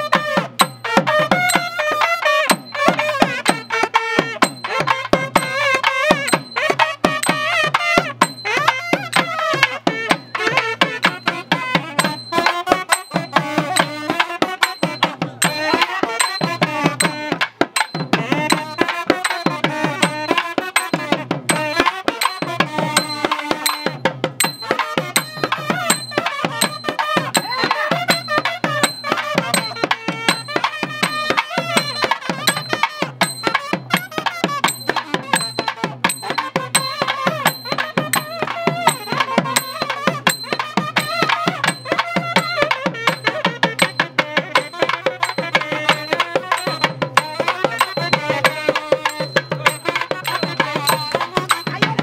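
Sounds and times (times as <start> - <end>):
drums beating fast rhythm: 0.0 - 52.0
wind instrument ornamented melody: 0.0 - 52.0.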